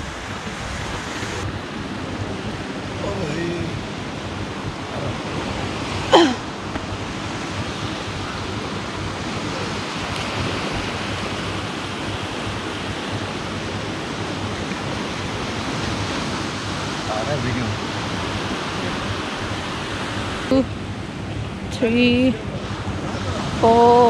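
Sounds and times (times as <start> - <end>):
surf washing on a beach: 0.0 - 24.0.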